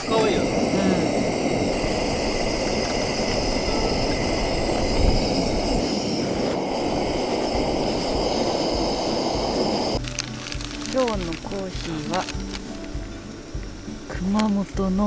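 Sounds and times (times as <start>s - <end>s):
gas stove burner roaring: 0.0s - 15.0s.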